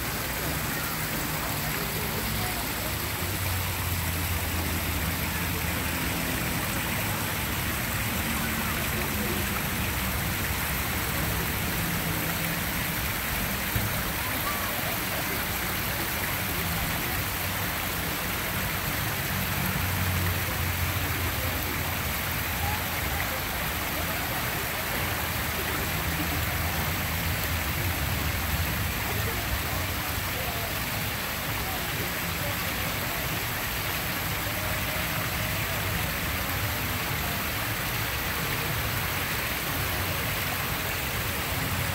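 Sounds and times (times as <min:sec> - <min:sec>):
small waterfall splashing: 0:00.0 - 0:41.9.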